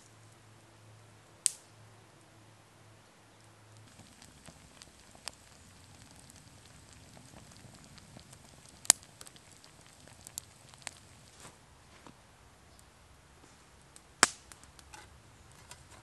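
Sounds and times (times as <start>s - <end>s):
campfire crackling and popping: 1.4s - 1.8s, 3.3s - 16.0s.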